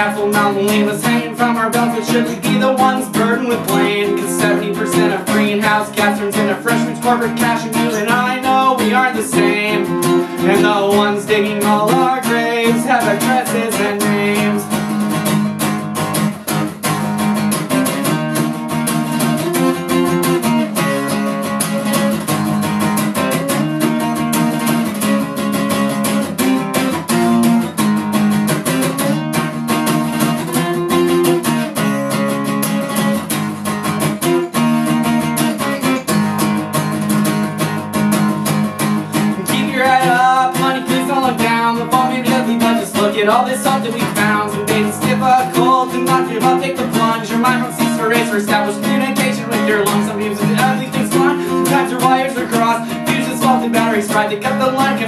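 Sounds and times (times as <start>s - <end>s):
guitar strumming chords: 0.0s - 55.0s.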